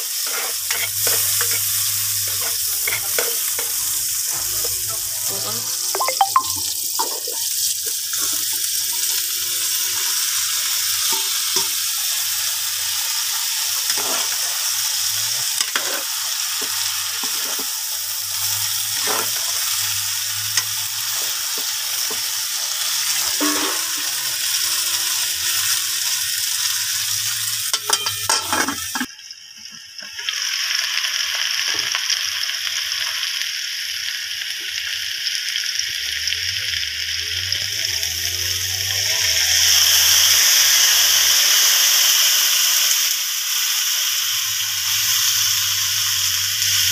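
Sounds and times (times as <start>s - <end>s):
oil sizzling in a pot: 0.0s - 46.9s.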